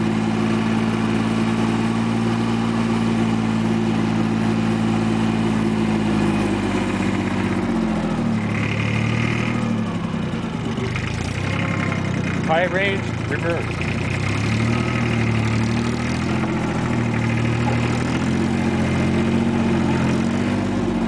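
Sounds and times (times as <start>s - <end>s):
diesel tractor engine: 0.0s - 21.0s.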